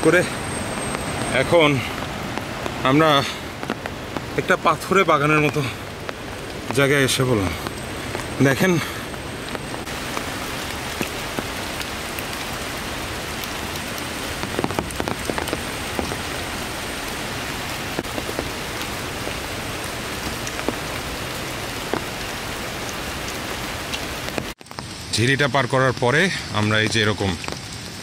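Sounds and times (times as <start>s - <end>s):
rain falling on leaves: 0.0s - 28.0s.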